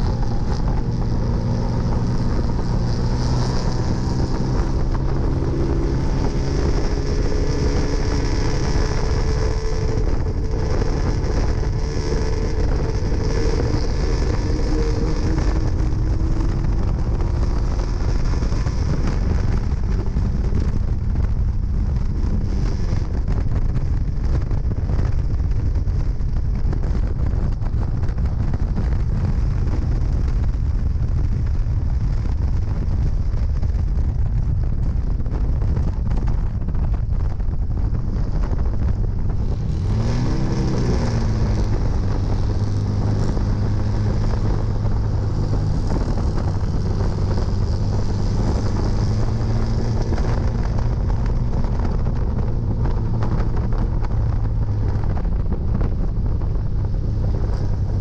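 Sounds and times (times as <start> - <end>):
race car engine running hard: 0.0 - 58.0
wind buffeting on microphone: 0.0 - 58.0.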